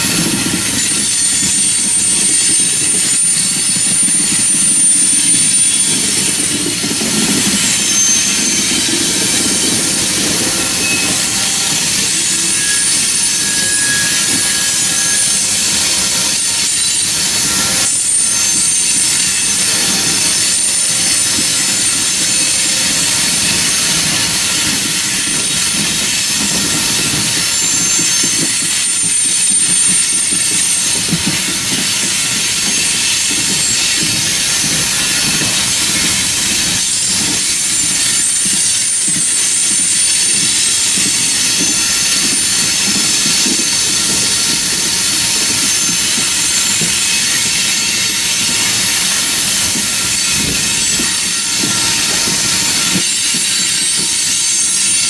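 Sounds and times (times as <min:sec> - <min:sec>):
train wheels clattering on rails: 0:00.0 - 0:55.0
high-pitched wheel squeal: 0:00.1 - 0:55.0.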